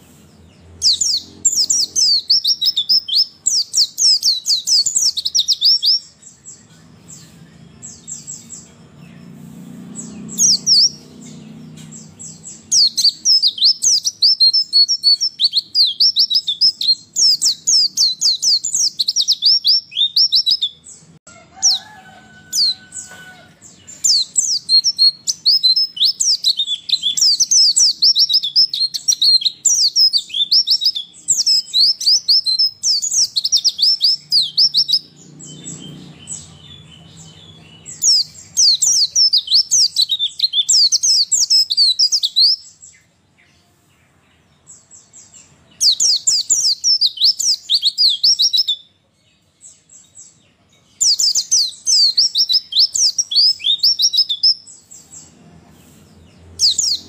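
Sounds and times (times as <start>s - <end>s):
bird high twittering song: 0.0s - 57.0s.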